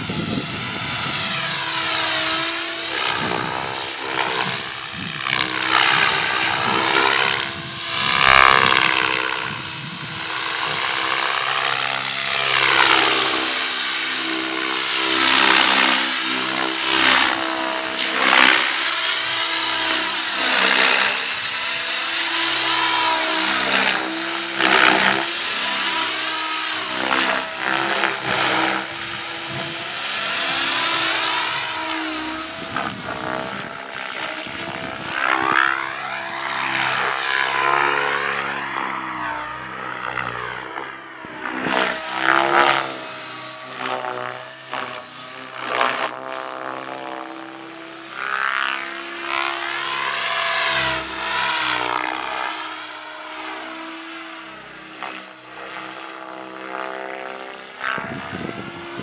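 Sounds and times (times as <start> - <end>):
model helicopter motor and rotor whine: 0.0 - 59.0.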